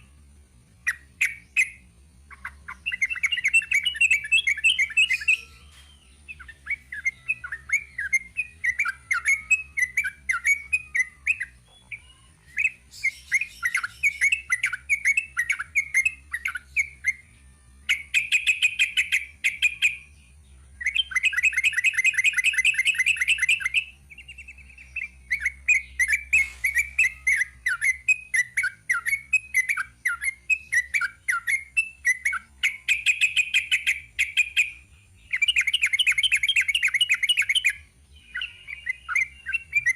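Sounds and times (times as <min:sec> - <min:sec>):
bird chirping and trilling: 0:00.0 - 0:39.9
faint high-pitched whine: 0:00.0 - 0:39.9.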